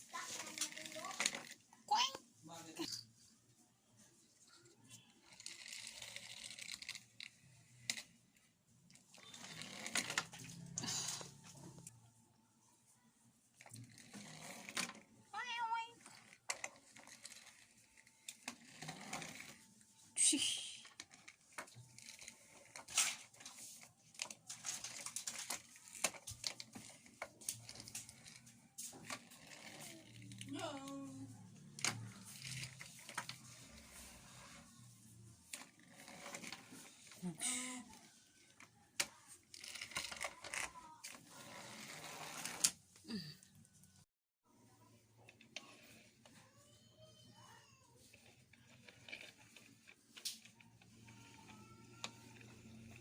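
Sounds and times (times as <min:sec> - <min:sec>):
toy vehicles rattling: 0:00.0 - 0:03.1, 0:04.2 - 0:11.9, 0:13.5 - 0:43.0, 0:45.2 - 0:53.0.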